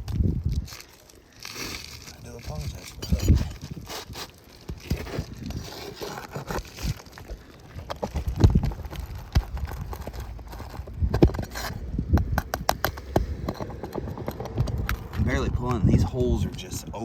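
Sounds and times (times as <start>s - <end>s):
shingles and nails being pried: 0.0s - 15.2s
knocks and scrapes on shingle roof: 0.0s - 15.4s.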